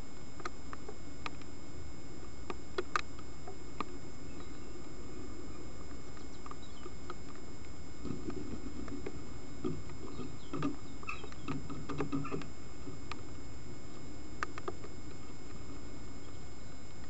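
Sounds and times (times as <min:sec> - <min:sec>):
steady low microphone hiss: 0:00.0 - 0:17.0
faint scattered clicks: 0:00.1 - 0:01.6, 0:02.2 - 0:17.0.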